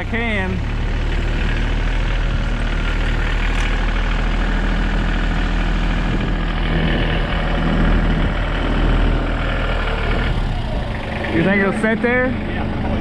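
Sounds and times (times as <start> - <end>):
tow truck engine running: 0.0 - 13.0.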